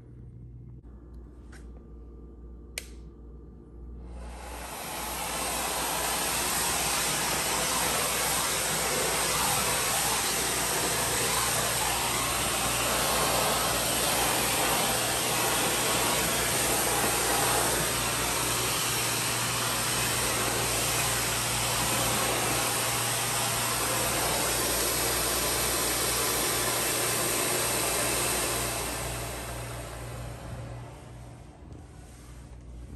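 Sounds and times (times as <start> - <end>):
vacuum cleaner hissing: 4.1 - 32.9.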